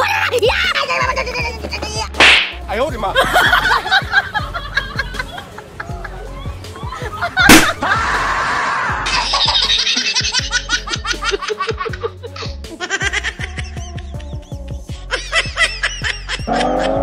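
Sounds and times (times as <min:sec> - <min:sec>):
background music: 0:00.0 - 0:17.0
high-pitched laughter: 0:00.1 - 0:02.1, 0:03.2 - 0:17.0.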